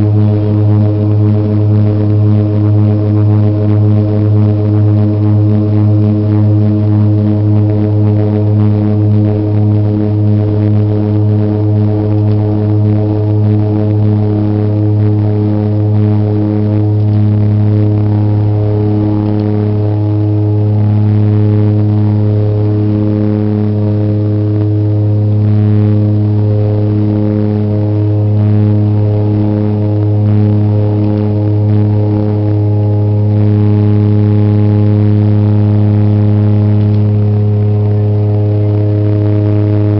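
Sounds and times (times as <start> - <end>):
turboprop propellers droning: 0.0 - 39.9.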